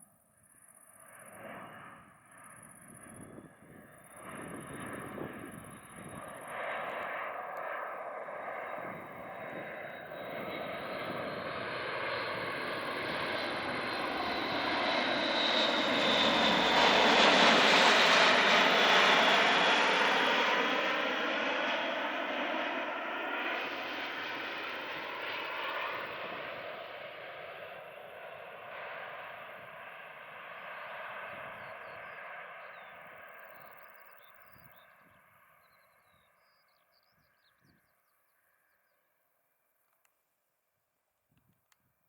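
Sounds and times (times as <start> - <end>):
turboprop plane flying past: 0.0 - 39.2.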